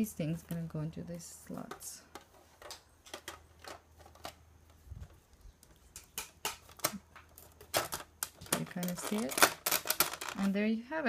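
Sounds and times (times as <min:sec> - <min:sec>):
plastic parts clicking and knocking: 0:01.5 - 0:10.6.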